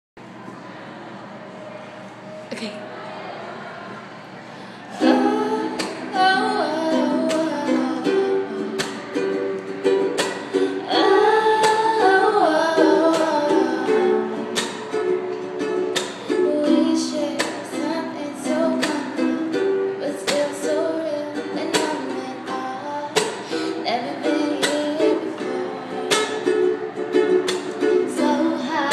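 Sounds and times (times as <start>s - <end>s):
stringed instrument strummed: 3.8s - 28.9s
person singing: 4.6s - 28.9s.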